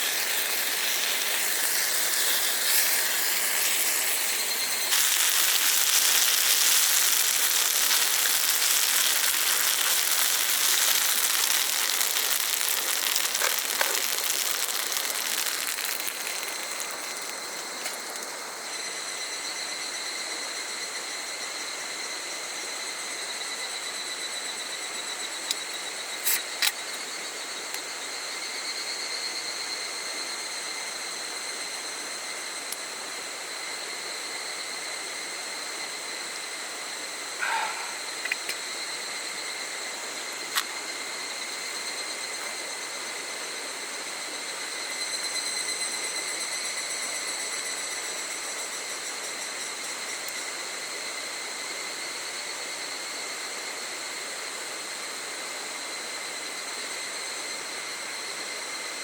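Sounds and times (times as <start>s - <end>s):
insects high-pitched hiss: 0.0s - 59.0s
insects trilling: 0.0s - 59.0s.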